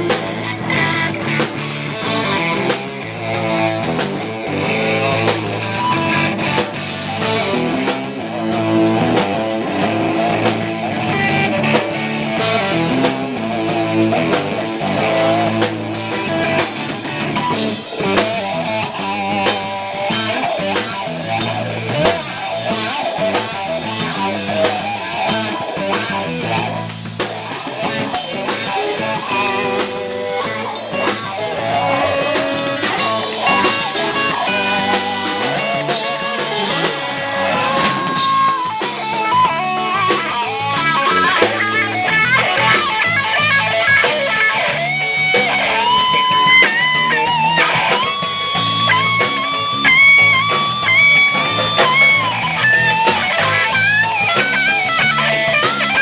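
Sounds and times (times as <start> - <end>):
bass guitar: 0.0 - 56.0
electric guitar: 0.0 - 56.0
steady drum beat: 0.0 - 56.0.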